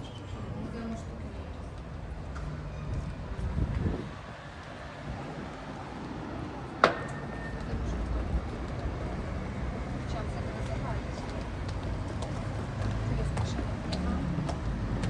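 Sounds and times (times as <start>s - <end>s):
faint voices of passers-by: 0.0s - 15.0s.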